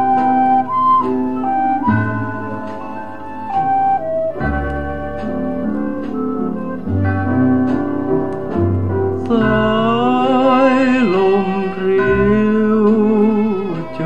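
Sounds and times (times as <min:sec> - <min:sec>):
ballad playing from vinyl record: 0:00.0 - 0:14.0.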